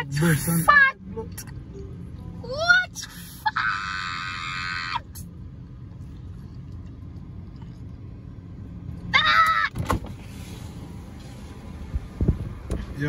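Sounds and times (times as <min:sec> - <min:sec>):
car rumbling: 0:00.0 - 0:13.0.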